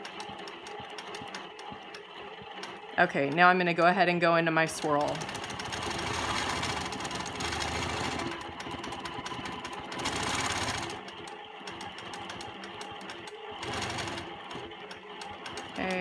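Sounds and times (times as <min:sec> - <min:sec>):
quilting machine needle clatter: 0:02.6 - 0:16.0.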